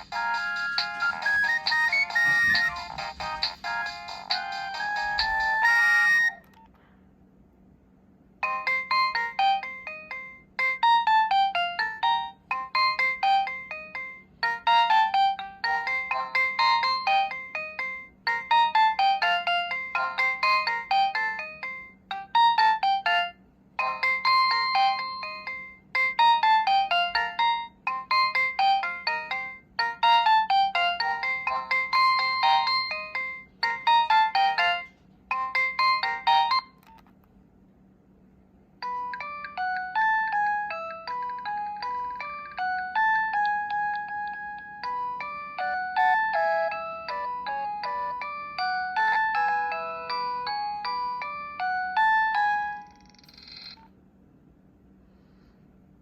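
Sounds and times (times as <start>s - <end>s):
mobile phone ringtone melody: 0.0s - 6.6s, 8.4s - 37.0s, 38.8s - 53.9s.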